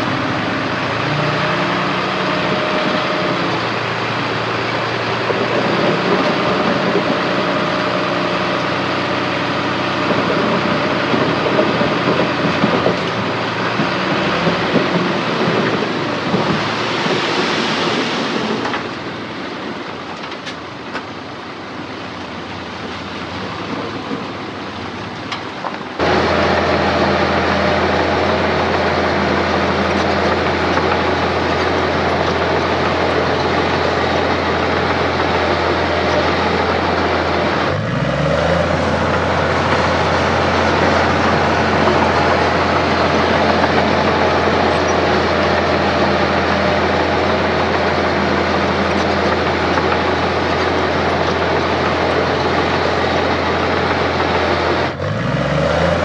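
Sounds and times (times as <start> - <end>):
heavy diesel machinery engine: 0.0 - 56.0.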